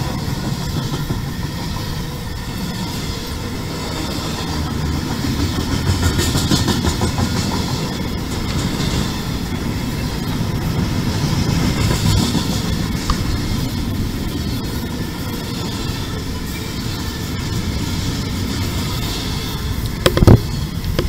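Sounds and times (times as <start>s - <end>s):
train wheels rumbling on rails: 0.0s - 21.0s
wheel clicks at rail joints: 0.0s - 21.0s.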